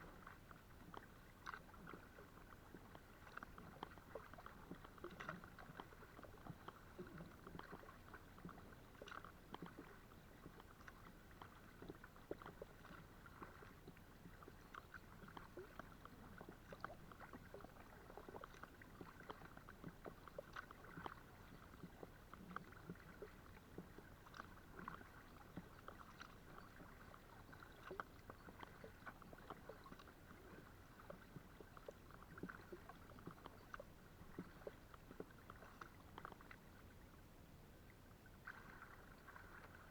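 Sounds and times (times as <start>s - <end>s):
paddle splashing water: 0.0s - 39.9s.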